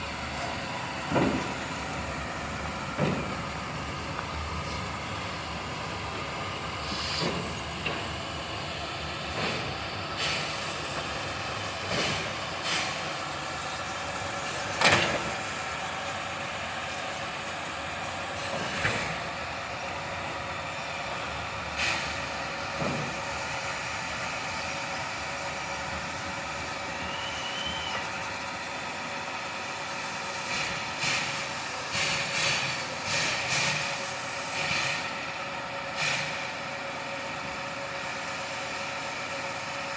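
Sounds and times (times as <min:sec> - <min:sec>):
steam locomotive hum and hiss: 0:00.0 - 0:39.9.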